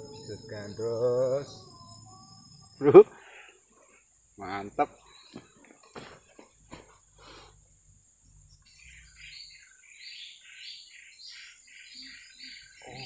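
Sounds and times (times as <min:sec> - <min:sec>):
bird chirping: 0:00.0 - 0:13.0
high insect drone: 0:00.0 - 0:13.0.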